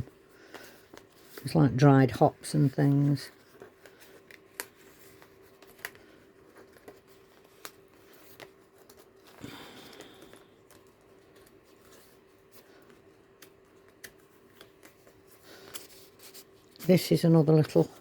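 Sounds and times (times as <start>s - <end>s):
faint steady hum: 0.0s - 18.0s
paper rustling: 0.0s - 18.0s
paper pages clicking and tapping: 0.4s - 1.6s, 2.6s - 18.0s.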